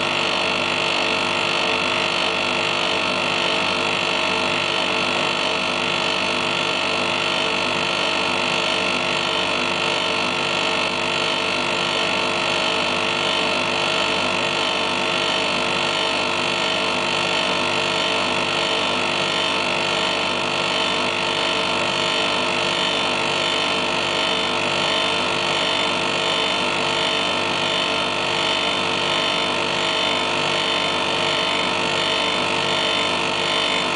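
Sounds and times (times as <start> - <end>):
compressor and fan humming: 0.0 - 33.9.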